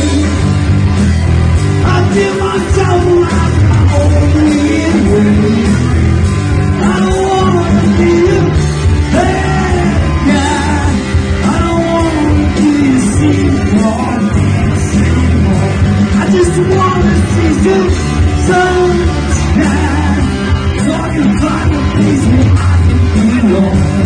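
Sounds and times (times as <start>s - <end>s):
man singing into a microphone: 0.0s - 0.6s, 1.8s - 24.0s
drums: 0.0s - 24.0s
electric bass: 0.0s - 24.0s
electric guitar: 0.0s - 24.0s.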